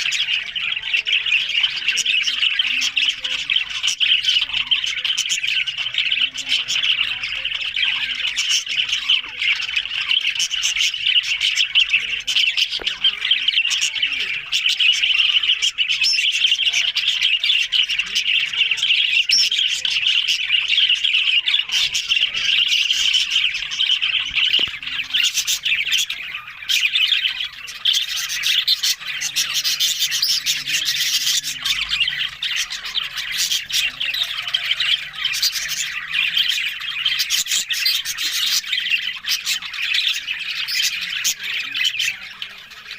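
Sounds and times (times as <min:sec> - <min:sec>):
budgerigars chattering and warbling: 0:00.0 - 0:42.9
sharp bird chirps and squawks: 0:00.0 - 0:42.9.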